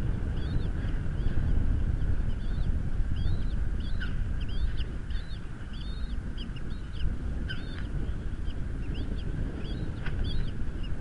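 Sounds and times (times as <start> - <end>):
eagle chicks peeping: 0.0 - 11.0
wind rumble on microphone: 0.0 - 11.0.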